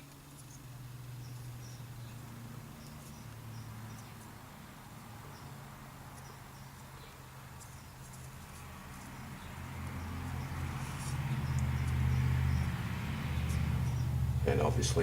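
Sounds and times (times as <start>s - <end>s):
light clicks and scratches: 0.0s - 4.4s, 6.1s - 14.0s
steady low hum: 0.0s - 15.0s.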